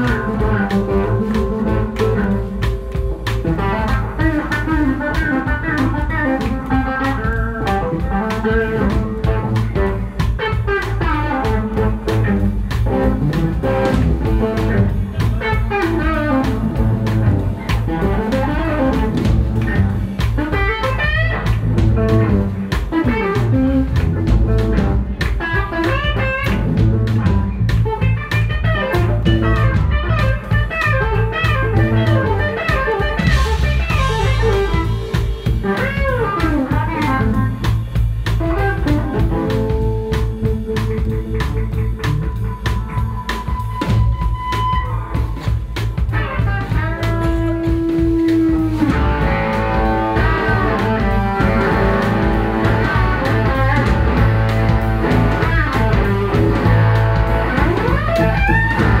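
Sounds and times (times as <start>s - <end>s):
drum kit: 0.0s - 59.0s
electric bass: 0.0s - 59.0s
electric guitar lead lines: 0.0s - 59.0s.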